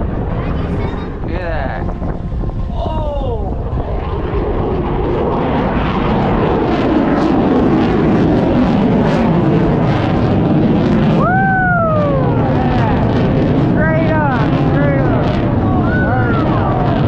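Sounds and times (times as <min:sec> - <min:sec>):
airplane engine noise: 0:00.0 - 0:17.0.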